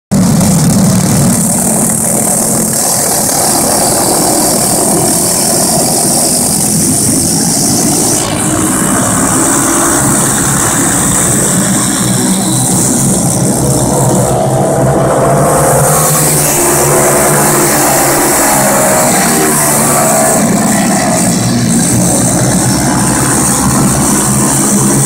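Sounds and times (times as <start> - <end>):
race car engines droning: 0.1 - 25.0.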